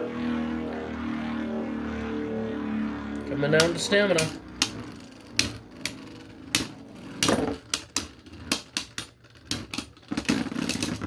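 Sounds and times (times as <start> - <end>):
whir of spinning tops: 0.0 - 11.0.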